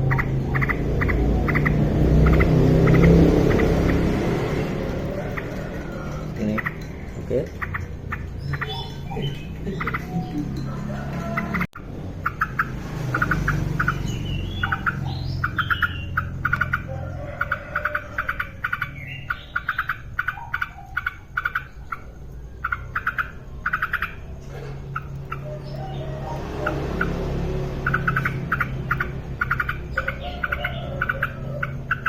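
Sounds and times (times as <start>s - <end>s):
bird chattering and whistling: 0.0s - 32.0s.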